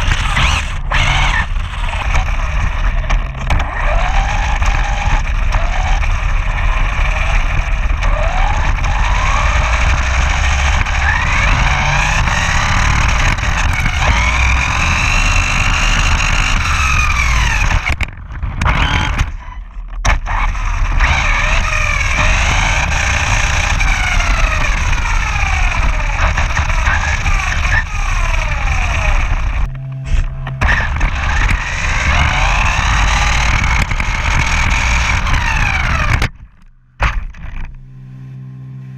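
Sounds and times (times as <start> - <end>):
electric motor whining: 0.0 - 38.9
low rumble: 0.0 - 38.9.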